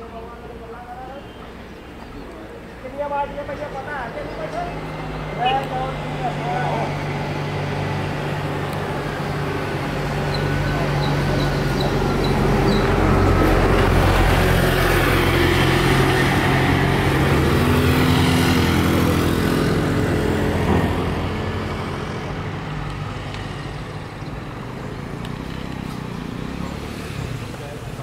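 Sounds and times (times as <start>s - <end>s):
vehicle engine passing: 3.3s - 28.0s.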